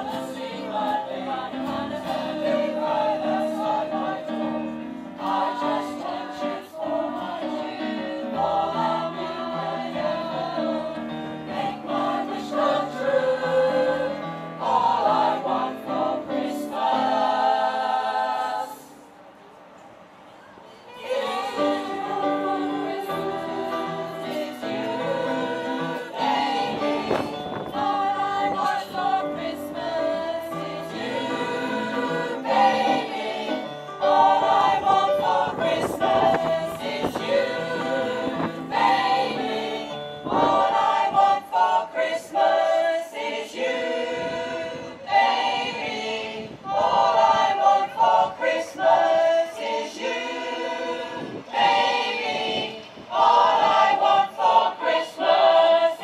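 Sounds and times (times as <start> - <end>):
choir singing in parts: 0.0 - 19.2, 20.9 - 56.0.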